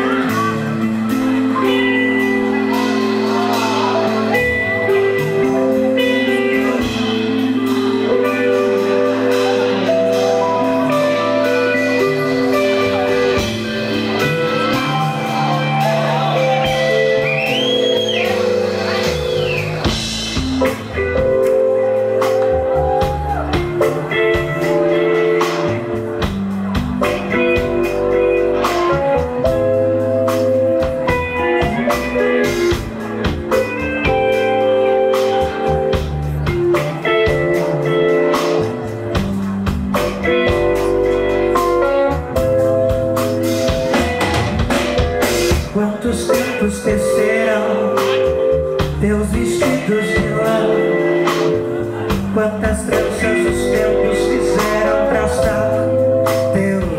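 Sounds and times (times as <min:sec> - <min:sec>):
live band playing: 0:00.0 - 0:56.9.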